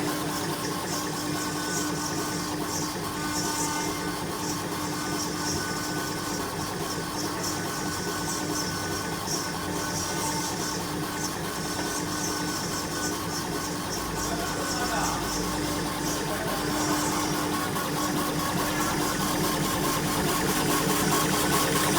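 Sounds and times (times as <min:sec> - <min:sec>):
machine humming and hissing: 0:00.0 - 0:21.9.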